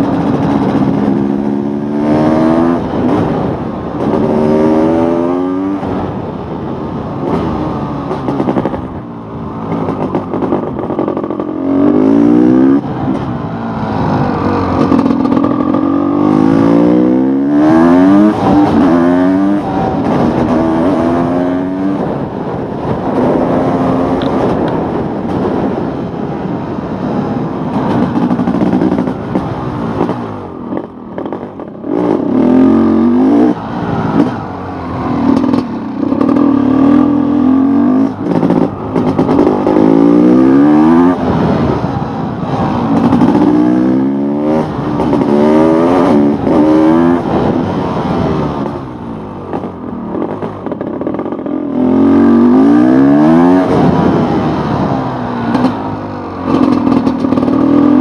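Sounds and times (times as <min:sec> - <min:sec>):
motorcycle engine revving: 0:00.0 - 0:25.5, 0:27.8 - 0:58.0.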